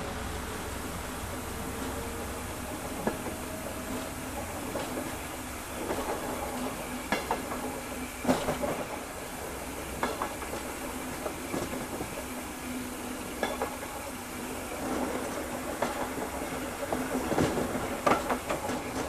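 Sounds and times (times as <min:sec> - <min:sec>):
model train humming: 0:00.0 - 0:19.0.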